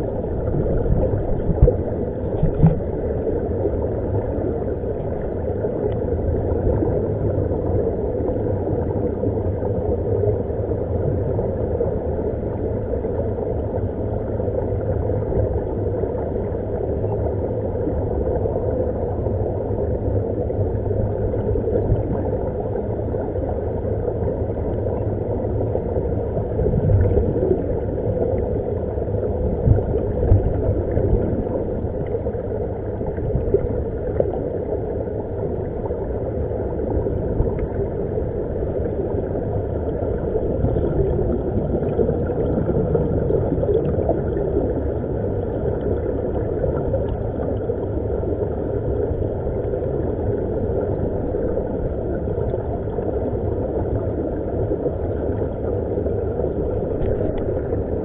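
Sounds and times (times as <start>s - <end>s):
underwater air bubbling: 0.0s - 58.0s.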